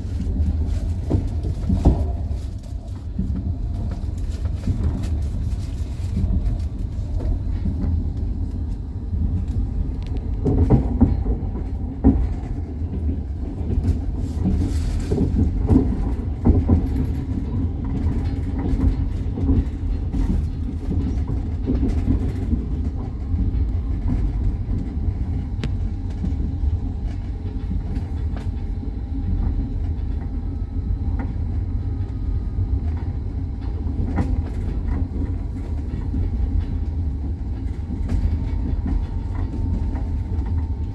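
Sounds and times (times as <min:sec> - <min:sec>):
rail joint clicks and knocks: 0:00.0 - 0:40.9
train wheels rumbling on rails: 0:00.0 - 0:40.9.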